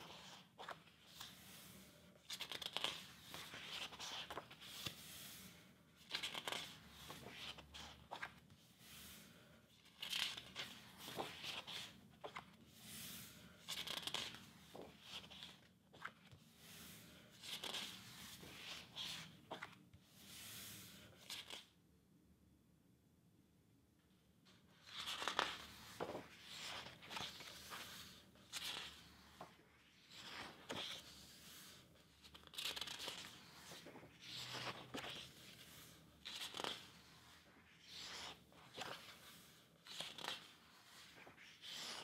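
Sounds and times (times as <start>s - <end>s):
book pages turning: 0.0s - 21.7s, 24.8s - 42.0s.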